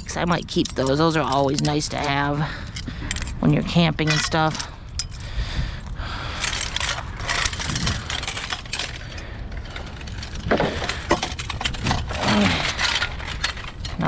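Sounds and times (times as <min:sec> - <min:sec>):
scrap metal crunching and rustling: 0:00.0 - 0:14.0.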